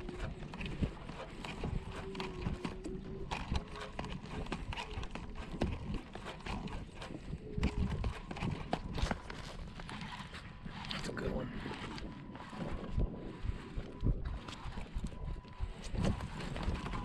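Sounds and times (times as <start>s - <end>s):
waves slapping boat hull: 0.0s - 17.0s
wind rumble on microphone: 0.0s - 17.0s.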